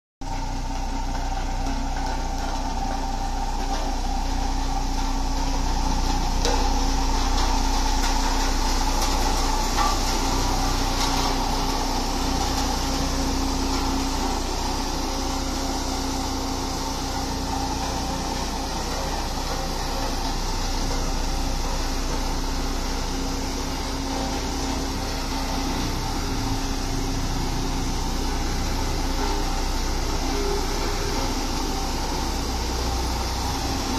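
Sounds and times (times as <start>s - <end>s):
road roller diesel engine: 0.2s - 33.9s.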